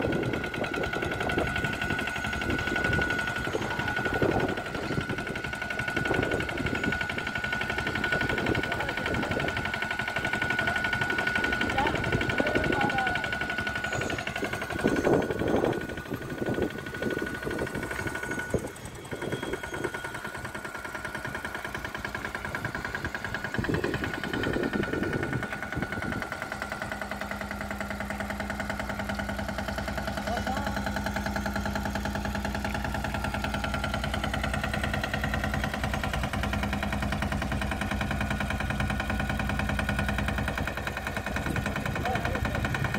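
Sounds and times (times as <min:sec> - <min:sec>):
mini tractor engine running: 0:00.0 - 0:42.9.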